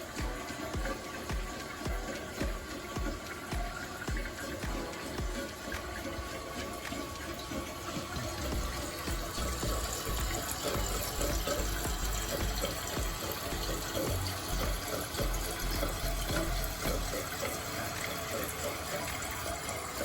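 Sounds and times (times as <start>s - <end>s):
water running into toilet tank: 0.0s - 20.0s.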